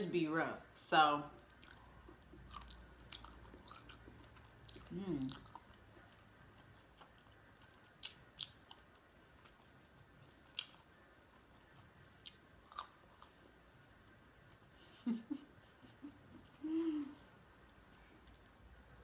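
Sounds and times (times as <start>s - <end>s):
person chewing food: 1.4s - 14.9s, 15.8s - 19.0s.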